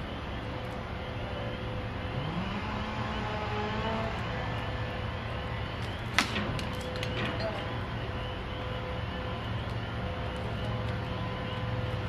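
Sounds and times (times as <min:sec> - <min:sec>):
machinery engine running: 0:00.0 - 0:12.0.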